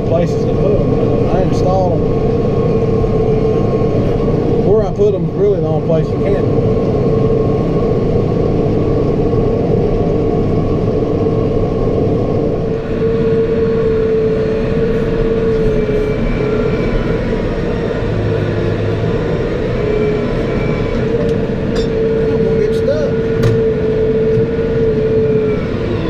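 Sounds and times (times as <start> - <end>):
constant whine: 0.0 - 26.0
tractor engine drone: 0.0 - 26.0.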